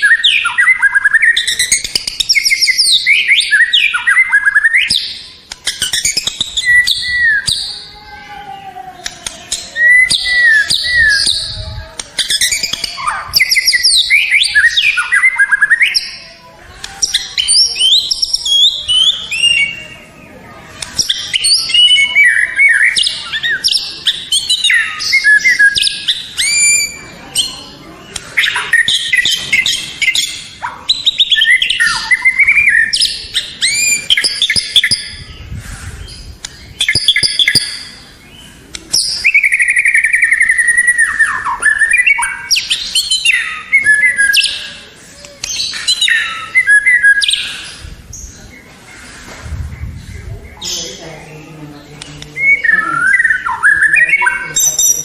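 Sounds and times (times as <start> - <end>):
bird singing varied song: 0.0 - 55.0.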